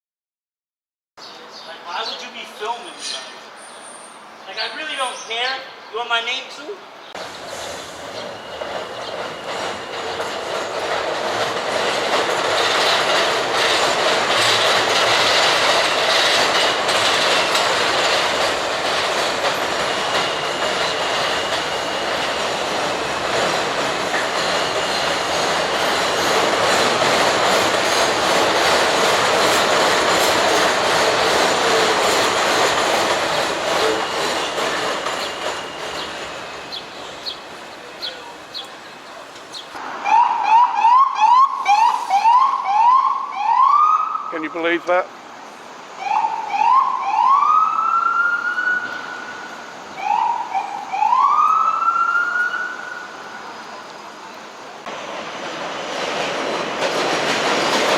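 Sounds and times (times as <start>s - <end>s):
subway train wheels on rails: 7.1s - 57.9s.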